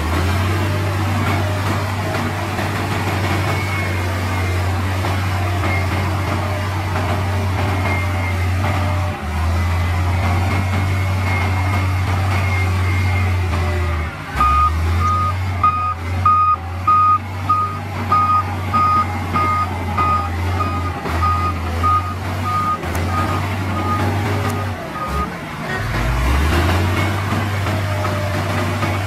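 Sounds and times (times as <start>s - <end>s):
diesel engine running: 0.0s - 29.0s
reversing alarm beeping: 2.1s - 25.4s.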